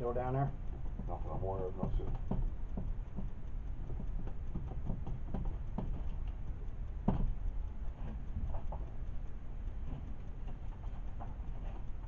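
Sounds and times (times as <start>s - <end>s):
faint clicks and taps: 0.0s - 12.0s
low steady rumble: 0.0s - 12.0s.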